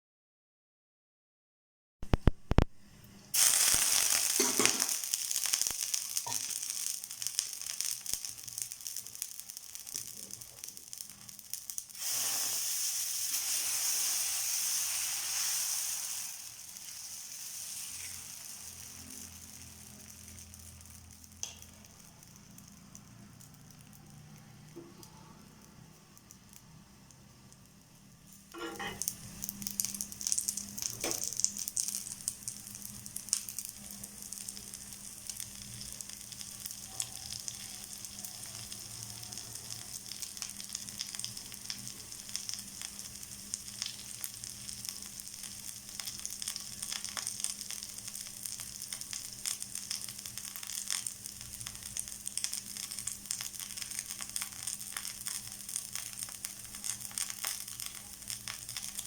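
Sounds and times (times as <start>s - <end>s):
batter sizzling on a griddle: 3.3s - 59.0s.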